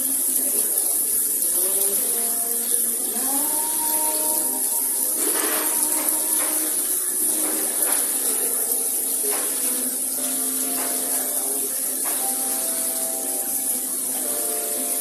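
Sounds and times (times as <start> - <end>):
soft held musical tones: 0.0 - 15.0
steady high hiss: 0.0 - 15.0.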